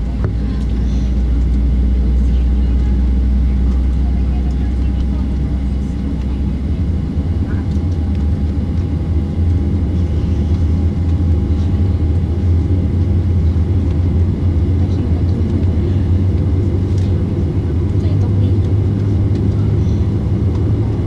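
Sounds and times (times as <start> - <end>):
faint constant hum: 0.0 - 21.0
low rumble inside jet cabin: 0.0 - 21.0.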